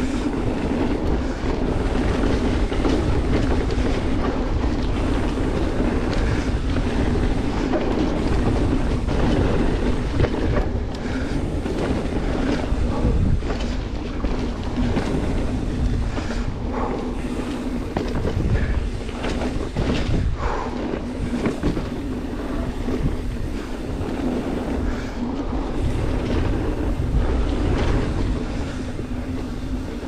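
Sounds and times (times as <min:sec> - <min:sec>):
bike rattles and knocks: 0:00.0 - 0:30.0
bike tyre rumble on dirt: 0:00.0 - 0:30.0
wind on microphone: 0:00.0 - 0:30.0.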